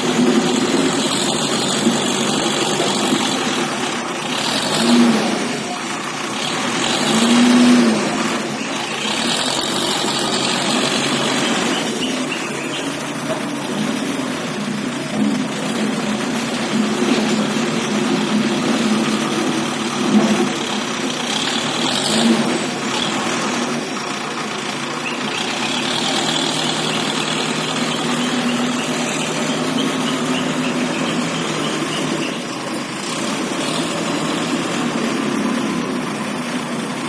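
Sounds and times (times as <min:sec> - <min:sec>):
backhoe diesel engine running: 0:00.0 - 0:37.0.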